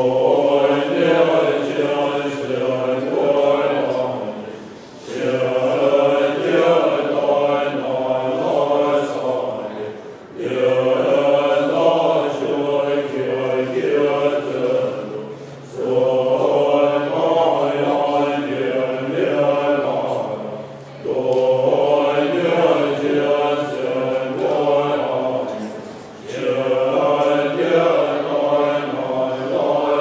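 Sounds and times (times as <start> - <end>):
monks chanting in low voices: 0.0 - 30.0.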